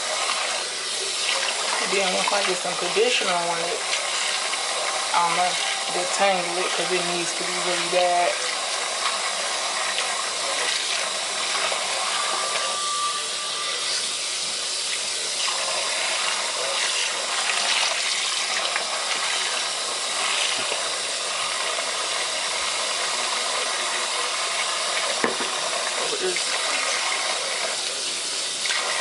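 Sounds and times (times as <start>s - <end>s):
tap water running into sink: 0.0s - 29.0s.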